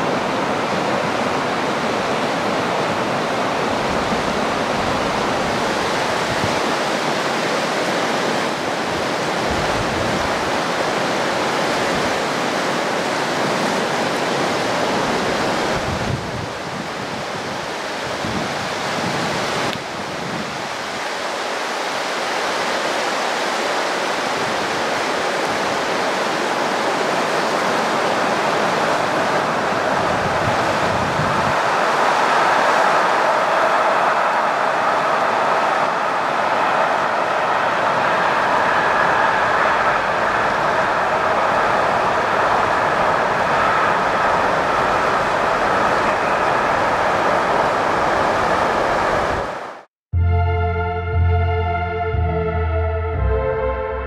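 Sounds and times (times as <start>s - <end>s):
river rapids roaring: 0.0s - 49.8s
freight train crossing bridge: 0.0s - 54.0s.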